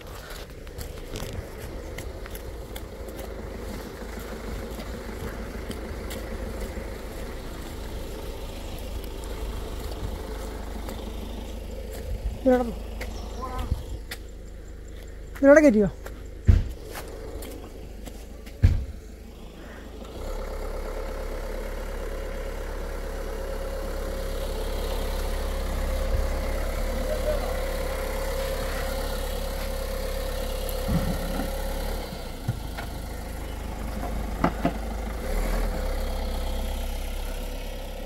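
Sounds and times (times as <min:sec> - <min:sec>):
car engine at low revs: 0:00.0 - 0:38.0.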